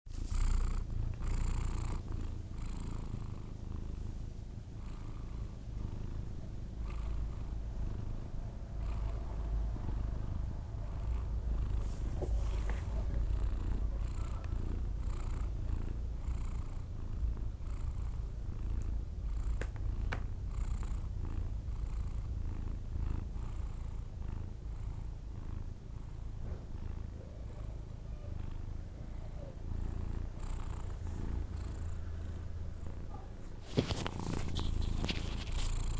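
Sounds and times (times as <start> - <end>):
sleeping cat breathing: 0.2 - 18.5, 20.7 - 35.9.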